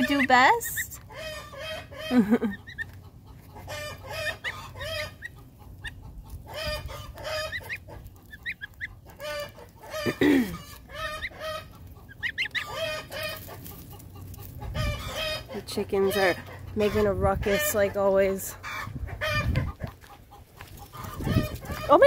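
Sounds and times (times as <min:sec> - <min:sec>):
chickens clucking and squawking: 0:00.0 - 0:22.0
goslings peeping: 0:00.0 - 0:22.0.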